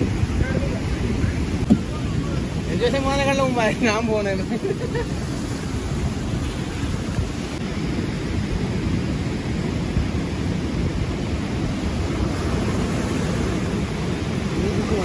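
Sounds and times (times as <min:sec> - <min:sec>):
sea noise: 0:00.0 - 0:15.0
wind on microphone: 0:00.0 - 0:15.0.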